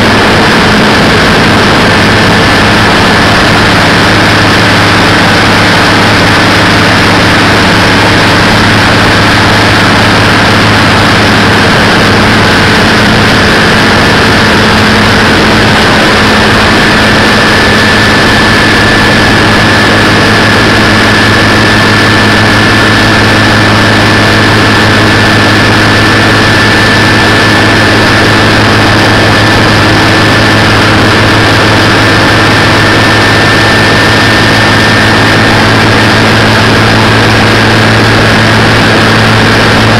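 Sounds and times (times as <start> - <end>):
boat engine running: 0.0 - 39.9
high whine: 0.0 - 39.9
wind and water rushing: 0.0 - 39.9.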